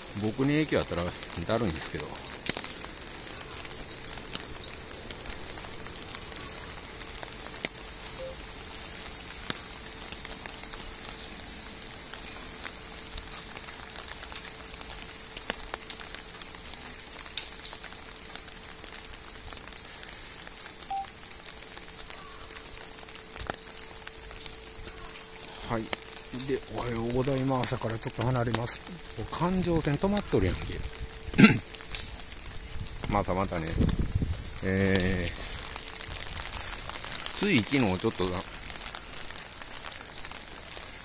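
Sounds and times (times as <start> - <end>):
light rain pattering: 0.0 - 41.0.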